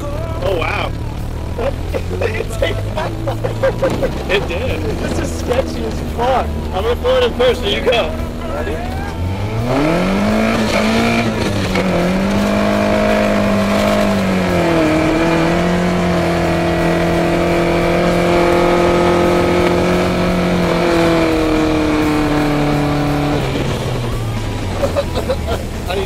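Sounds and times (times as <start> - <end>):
car engine revving hard: 0.0 - 26.0.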